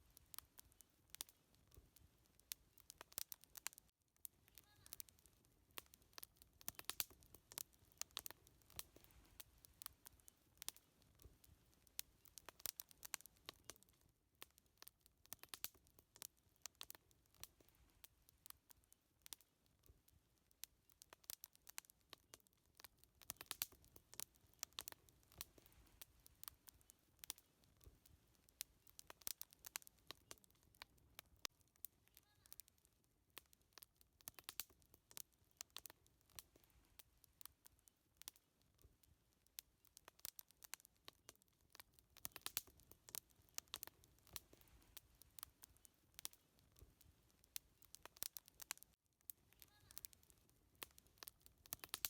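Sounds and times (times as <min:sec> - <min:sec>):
faint low hiss: 0:00.0 - 0:52.0
wood fire crackling: 0:00.0 - 0:52.0.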